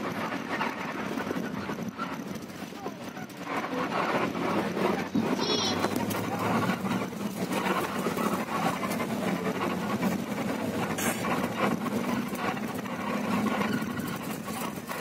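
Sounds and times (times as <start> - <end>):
coach engine hum: 0.0 - 15.0
rattles and clicks: 0.0 - 15.0
road noise rush: 0.0 - 15.0.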